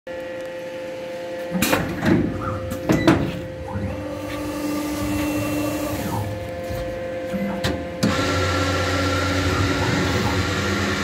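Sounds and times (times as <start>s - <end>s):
machine running hum: 0.1s - 11.0s
steady motor tone: 0.1s - 11.0s.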